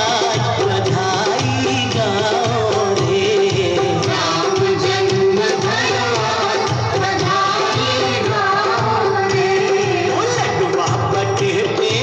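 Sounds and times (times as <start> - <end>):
folk music with singing: 0.0 - 12.0
steady drum beat: 0.0 - 12.0.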